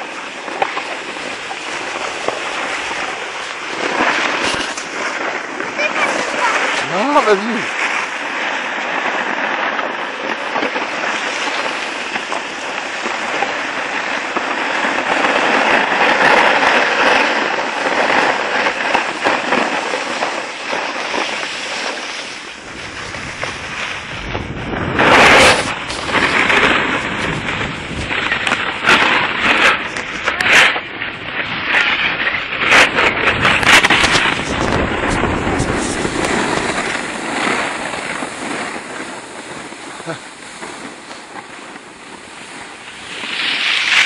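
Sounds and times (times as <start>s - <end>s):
skis scraping over snow: 0.0s - 44.0s
wind on microphone: 0.0s - 44.0s.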